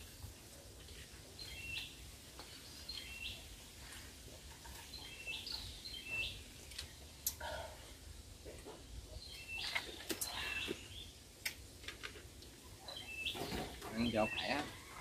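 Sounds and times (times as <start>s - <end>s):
faint low background noise: 0.0s - 15.0s
birds chirping: 0.9s - 11.2s, 12.4s - 15.0s.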